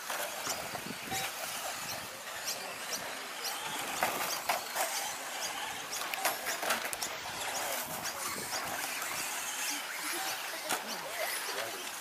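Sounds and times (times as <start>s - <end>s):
rc truck motor whines: 0.0s - 12.0s.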